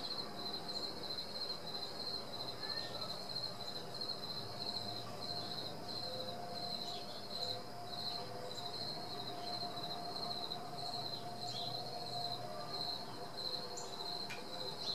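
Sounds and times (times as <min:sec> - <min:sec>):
faint steady hum: 0:00.0 - 0:14.9.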